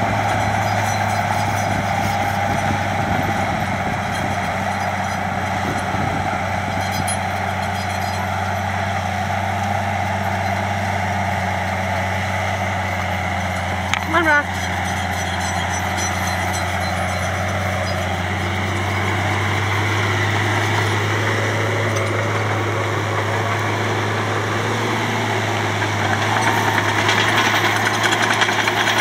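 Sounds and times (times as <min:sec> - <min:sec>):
bulldozer diesel engine droning: 0:00.0 - 0:29.0.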